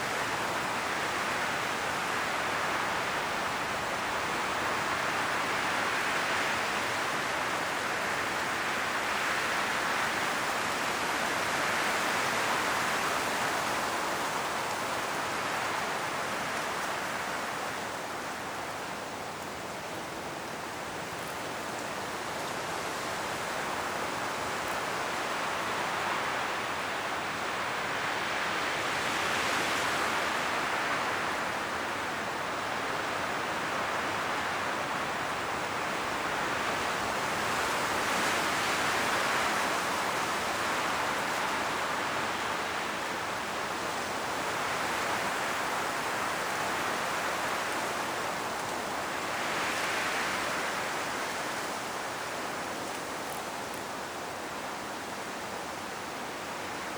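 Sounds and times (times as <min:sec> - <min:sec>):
wind rustling tree leaves: 0:00.0 - 0:56.9.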